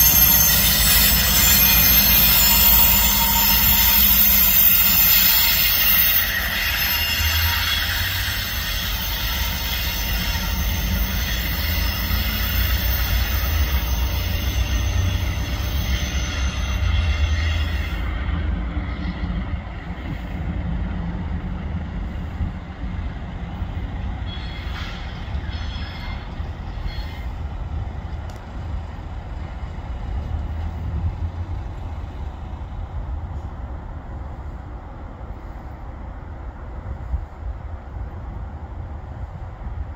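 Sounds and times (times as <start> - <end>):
diesel locomotive engine: 0.0 - 39.9
wheels on rail: 0.0 - 39.9.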